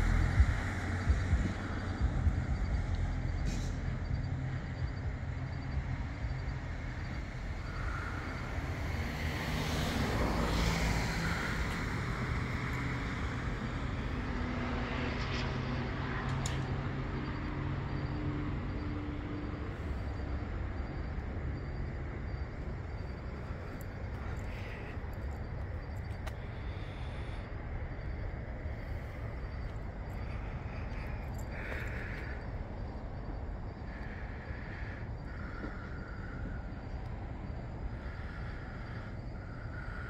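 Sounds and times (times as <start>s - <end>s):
road traffic rumble: 0.0s - 40.0s
vehicle passing: 7.5s - 40.0s.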